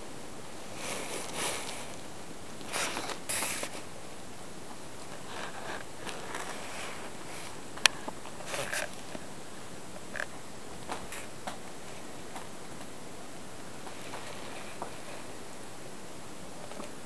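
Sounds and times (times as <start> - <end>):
rustling: 0.0 - 17.0
steady hiss: 0.0 - 17.0.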